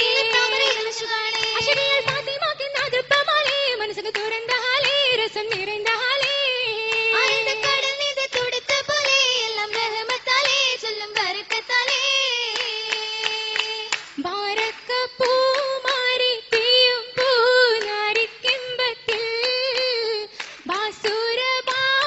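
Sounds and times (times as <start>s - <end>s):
girls singing: 0.0s - 22.0s
hand claps: 0.0s - 22.0s.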